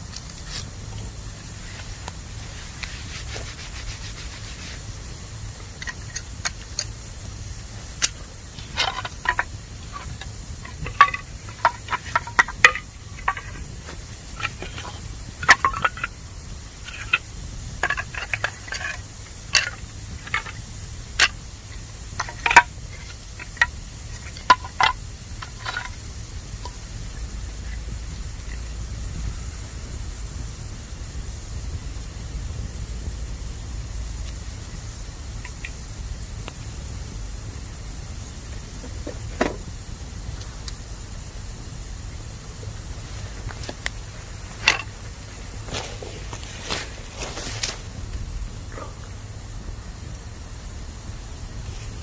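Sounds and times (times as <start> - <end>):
bamboo crackling and popping in fire: 0.0 - 52.0
steam hissing: 0.0 - 52.0.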